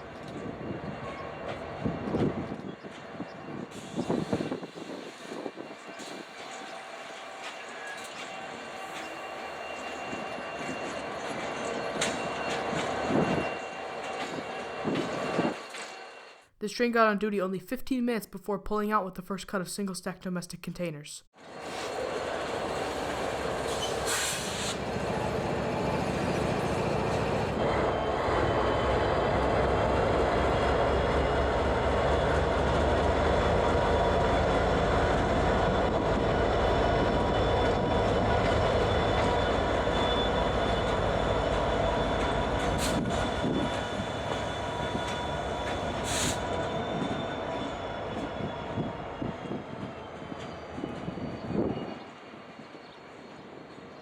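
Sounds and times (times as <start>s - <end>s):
train wheels rumbling on rails: 0.0s - 16.2s, 21.4s - 54.0s.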